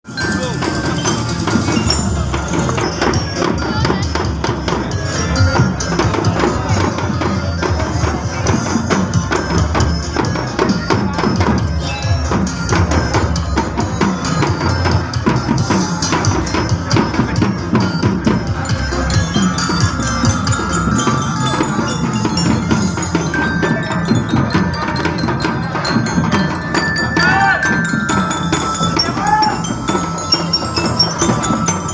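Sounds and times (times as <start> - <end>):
loud percussive music: 0.0 - 31.9.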